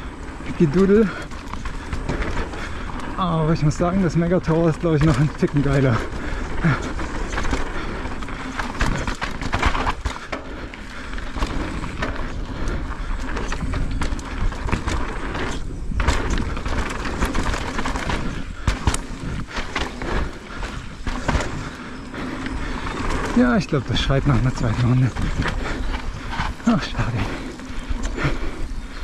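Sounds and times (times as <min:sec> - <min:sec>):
bike tyres rolling on dirt: 0:00.0 - 0:29.0
bike knocks and rattles: 0:00.4 - 0:29.0.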